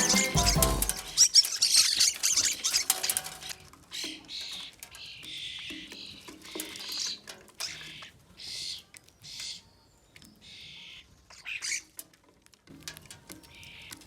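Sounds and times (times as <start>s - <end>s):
small birds calling: 0.0s - 12.1s.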